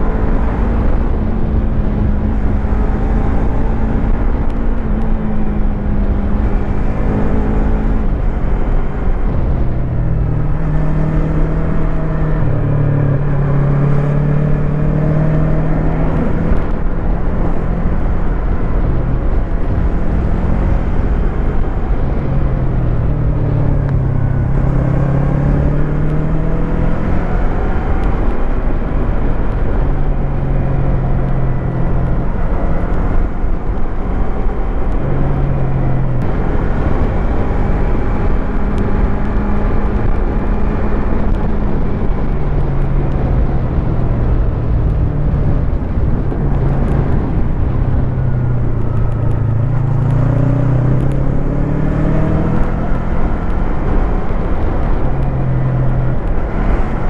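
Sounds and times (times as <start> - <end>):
motorcycle engine: 0.0 - 57.0
steady rushing noise: 0.0 - 57.0.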